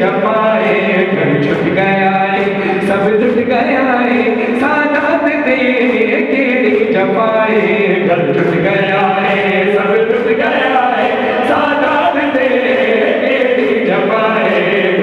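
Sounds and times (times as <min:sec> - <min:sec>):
man chanting through microphone: 0:00.0 - 0:15.0
voices chanting along: 0:00.0 - 0:15.0.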